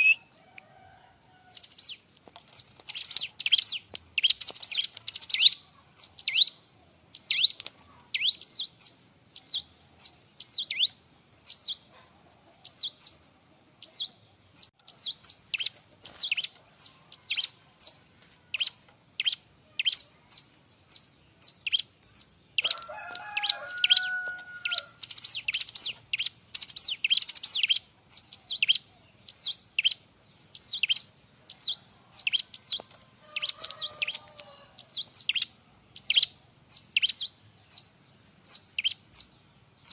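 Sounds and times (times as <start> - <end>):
bird chirping: 0.0 - 0.6, 1.3 - 39.9.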